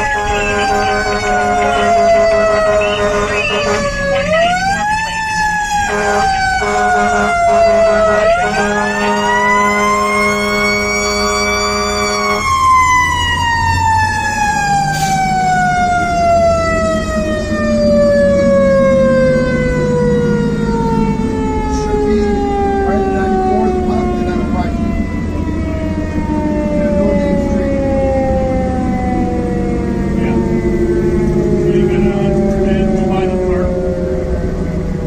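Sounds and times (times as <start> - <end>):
mechanical siren wailing: 0.0 - 35.0.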